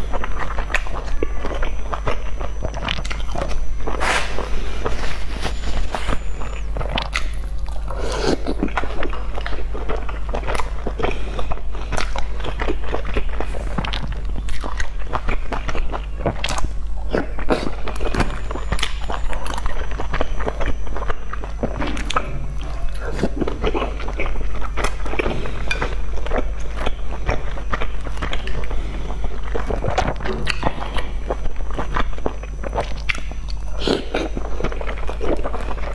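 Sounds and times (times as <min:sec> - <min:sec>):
steady low hum: 0:00.0 - 0:35.9
wet chewing mouth sounds: 0:00.0 - 0:35.9.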